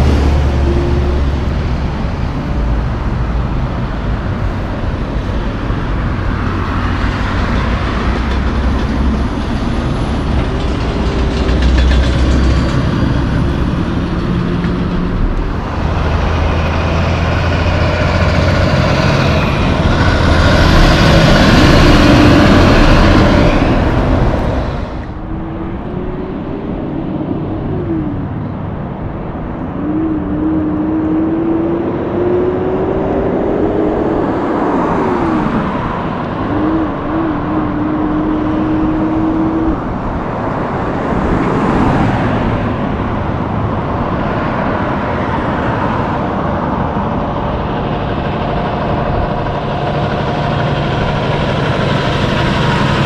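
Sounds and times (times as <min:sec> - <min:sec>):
heavy truck engine changing gears: 0:00.0 - 0:53.0
traffic noise: 0:00.0 - 0:53.0
truck passing close by: 0:00.0 - 0:53.0.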